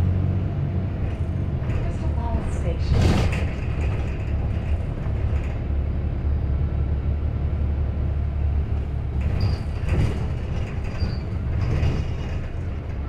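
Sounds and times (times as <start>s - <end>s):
bus engine drone: 0.0s - 13.0s
rattle and road noise: 0.0s - 13.0s.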